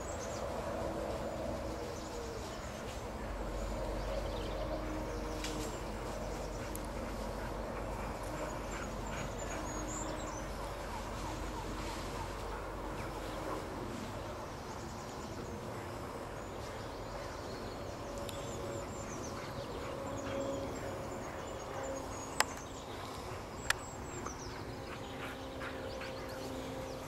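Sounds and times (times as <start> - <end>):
birds chirping and singing: 0.0 - 27.0
outdoor background noise: 0.0 - 27.0.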